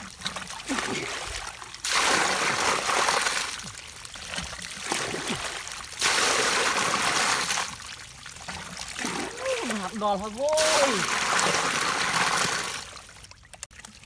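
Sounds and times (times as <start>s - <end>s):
water poured and splashing: 0.0s - 14.0s.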